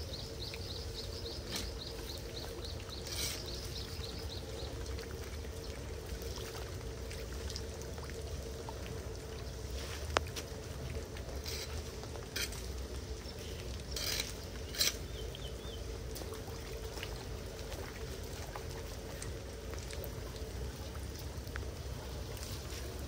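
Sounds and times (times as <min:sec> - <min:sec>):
floodwater pouring into storm drain: 0:00.0 - 0:23.0.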